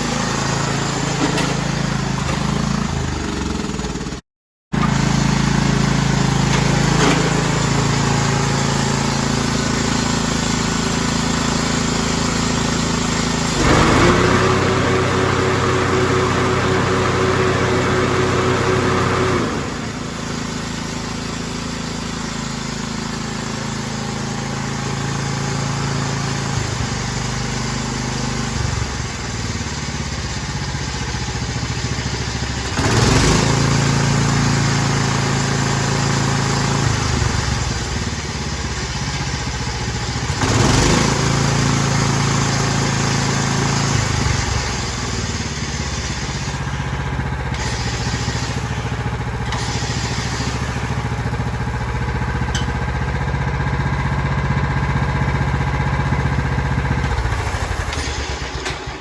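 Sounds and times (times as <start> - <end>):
riding lawn mower engine running: 0.0 - 59.0.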